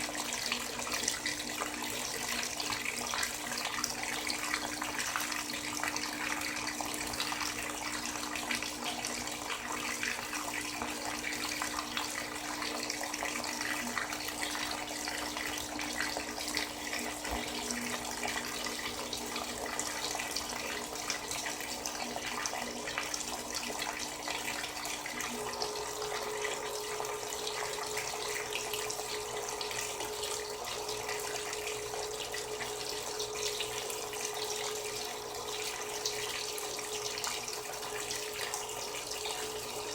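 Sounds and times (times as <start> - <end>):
water rushing into washing machine: 0.0 - 39.9.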